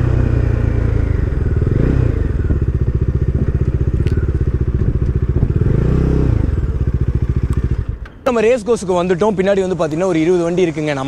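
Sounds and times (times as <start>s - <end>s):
motorcycle engine running low revs: 0.0s - 11.0s.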